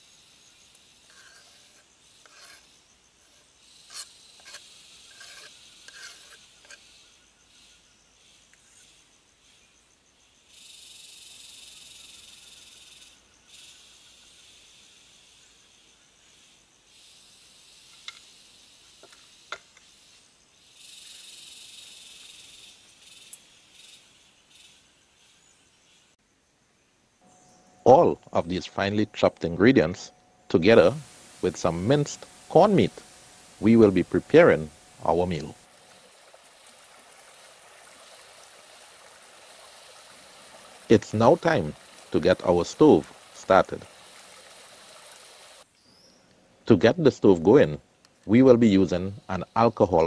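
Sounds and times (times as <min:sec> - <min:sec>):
high insect buzz: 0:00.0 - 0:46.2.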